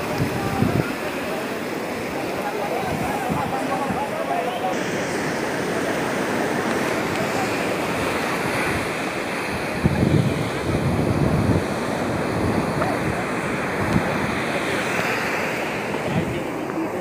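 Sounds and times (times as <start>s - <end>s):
surf on a beach: 0.0s - 17.0s
wind on microphone: 0.0s - 17.0s.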